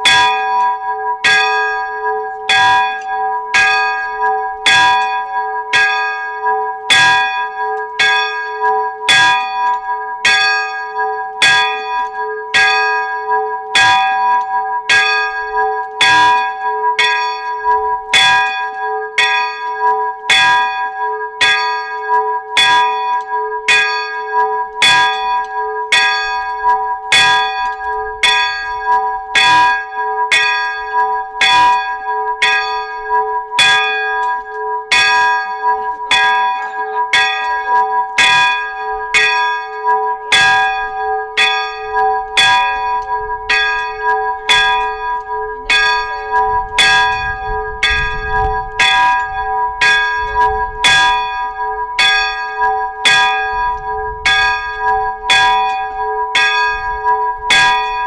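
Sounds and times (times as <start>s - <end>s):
church bell struck rapidly: 0.0s - 58.0s.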